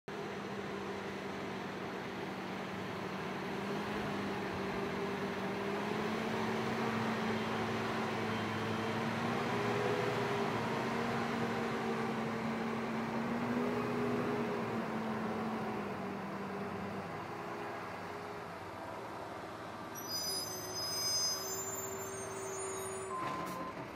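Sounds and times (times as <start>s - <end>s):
street sweeper truck driving past: 0.1s - 23.9s.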